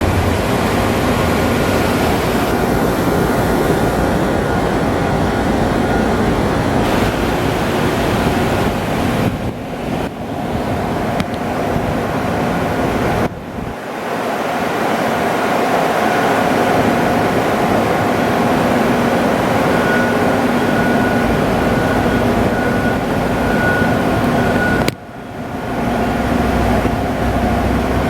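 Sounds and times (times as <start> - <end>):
high machine whine: 0.0 - 28.0
lathe machine whirring: 0.0 - 28.0.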